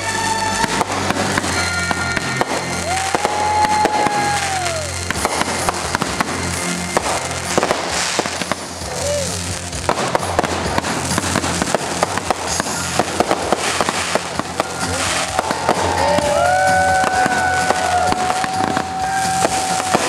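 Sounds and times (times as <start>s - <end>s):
fireworks bangs and crackles: 0.0s - 20.0s
music playing: 0.0s - 20.0s.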